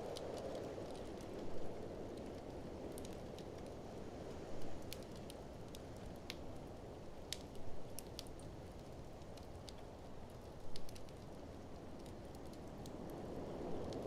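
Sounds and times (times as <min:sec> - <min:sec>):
low rush of blizzard wind: 0:00.0 - 0:14.0
wood fire crackling: 0:00.0 - 0:14.0.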